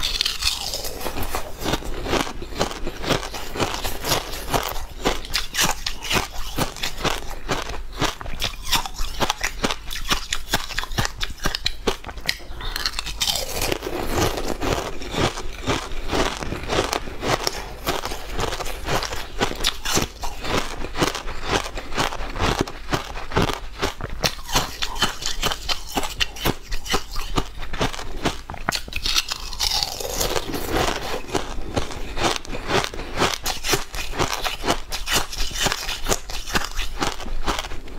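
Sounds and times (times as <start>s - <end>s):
crunchy candy chewing: 0.0s - 37.9s.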